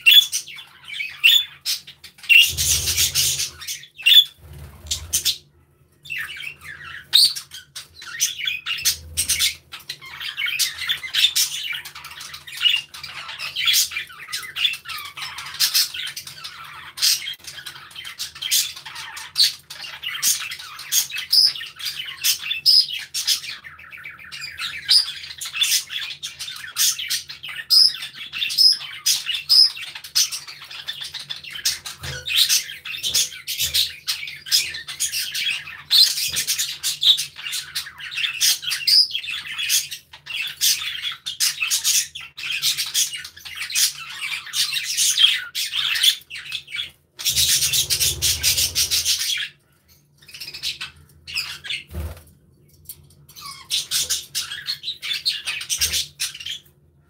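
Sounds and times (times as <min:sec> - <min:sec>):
budgerigars chirping and squawking: 0:00.0 - 0:52.3, 0:52.9 - 0:57.0.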